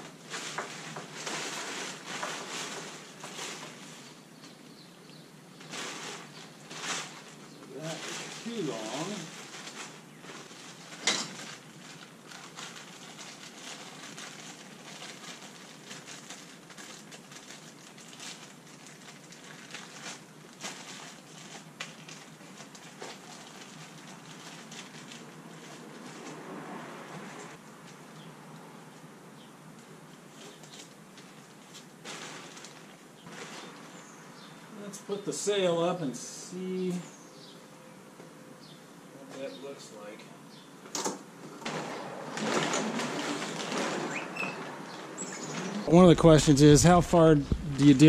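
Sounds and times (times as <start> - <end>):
plastic tarp rustling: 0.0 - 4.7, 5.4 - 28.3, 30.0 - 35.9, 41.4 - 48.0.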